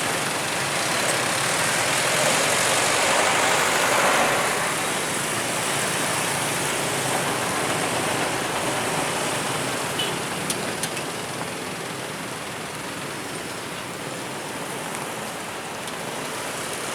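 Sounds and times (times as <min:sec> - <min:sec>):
road traffic rush: 0:00.0 - 0:16.9.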